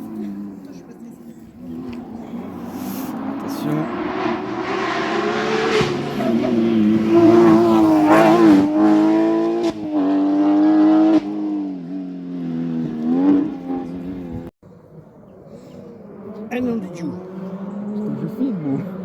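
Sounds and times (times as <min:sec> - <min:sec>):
rally car engine at full throttle: 0:00.0 - 0:14.5, 0:15.1 - 0:19.0.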